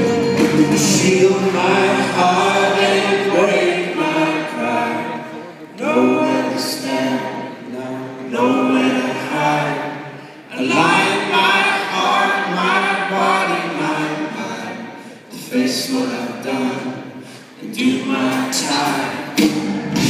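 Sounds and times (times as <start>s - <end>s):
group of voices singing: 0.8s - 20.0s.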